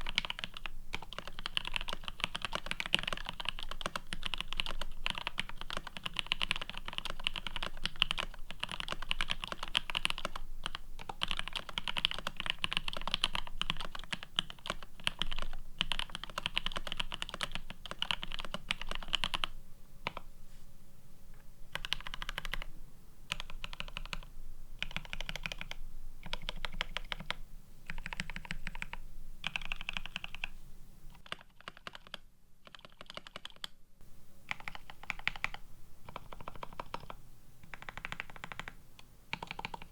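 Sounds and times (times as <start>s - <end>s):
typing on mechanical keyboard: 0.0s - 20.2s, 21.7s - 22.7s, 23.3s - 30.5s, 31.2s - 33.7s, 34.5s - 39.9s.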